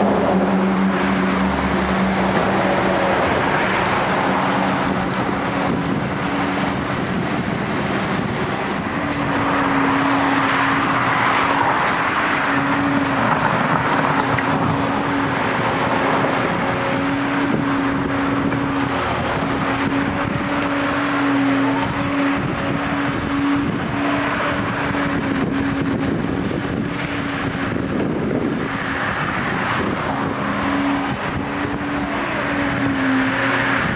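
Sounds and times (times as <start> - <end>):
excavator diesel engine and hydraulics: 0.0 - 33.9.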